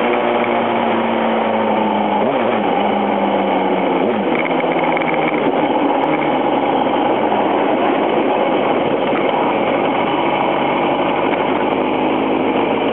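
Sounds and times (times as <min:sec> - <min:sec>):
rushing wind: 0:00.0 - 0:12.9.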